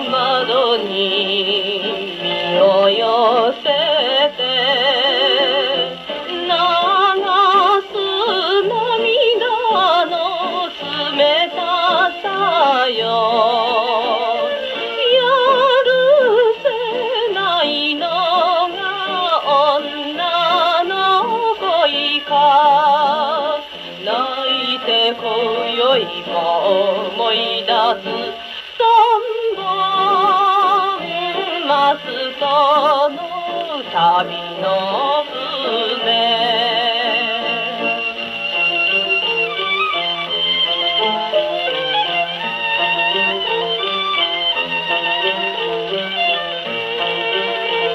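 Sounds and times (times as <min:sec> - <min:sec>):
old gramophone record music: 0:00.0 - 0:47.9.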